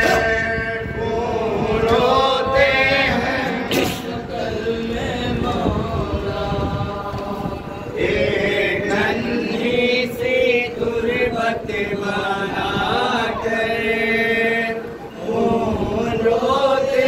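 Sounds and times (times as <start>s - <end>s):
men chanting a mourning lament: 0.0s - 17.0s.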